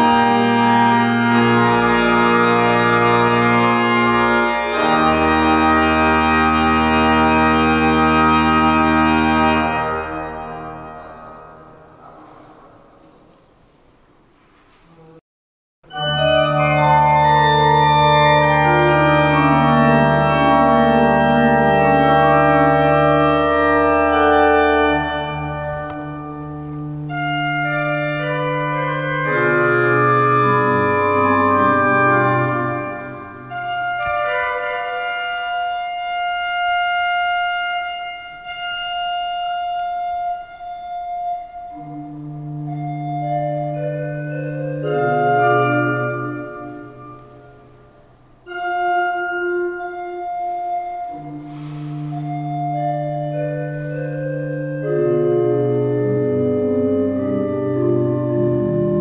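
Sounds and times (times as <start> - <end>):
pipe organ chords: 0.0 - 14.2, 15.9 - 59.0.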